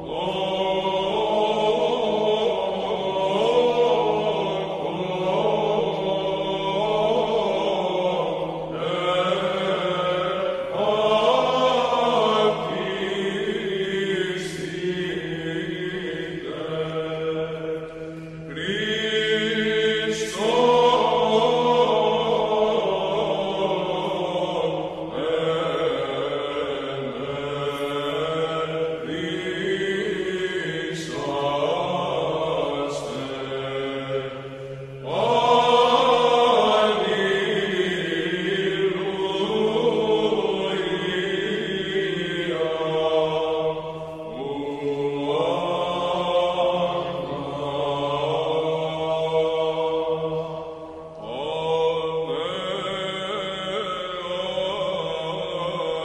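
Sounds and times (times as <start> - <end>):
slow vocal chanting: 0.0 - 56.0.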